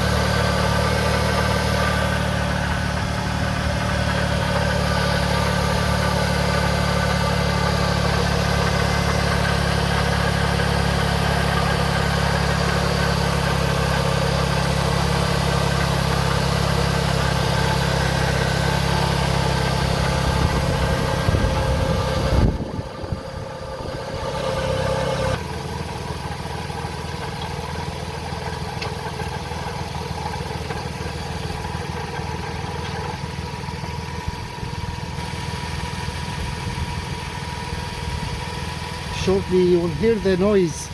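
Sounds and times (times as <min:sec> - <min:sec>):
car engine idling: 0:00.0 - 0:40.9
quieter engine running: 0:00.0 - 0:40.9.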